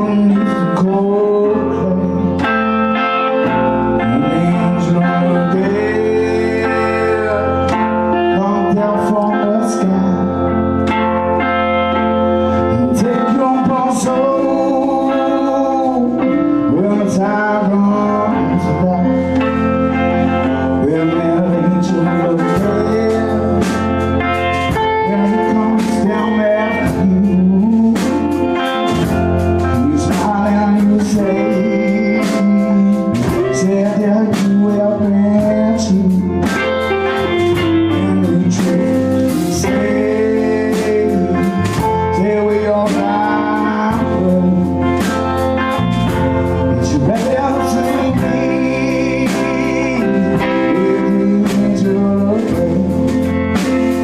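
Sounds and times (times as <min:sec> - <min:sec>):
blues-rock band playing: 0:00.0 - 0:54.0
electric guitar lines: 0:00.0 - 0:54.0.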